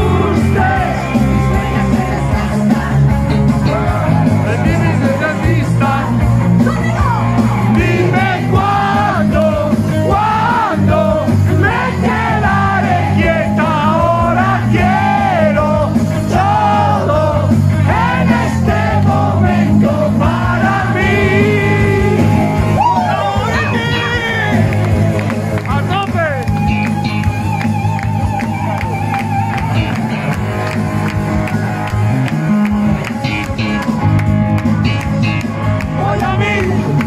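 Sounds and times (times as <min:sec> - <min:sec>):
electric guitar: 0:00.0 - 0:37.0
live rock band playing: 0:00.0 - 0:37.0.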